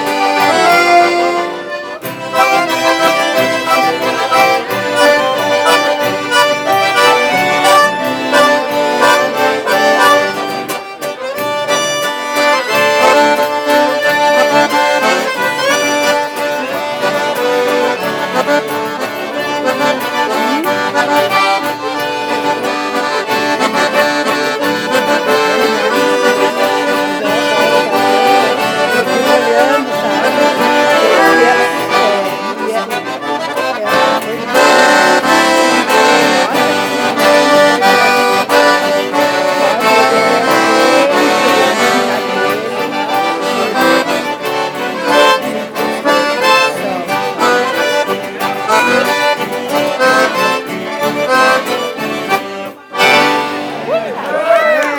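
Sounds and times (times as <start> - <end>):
accordion music: 0.0 - 54.9.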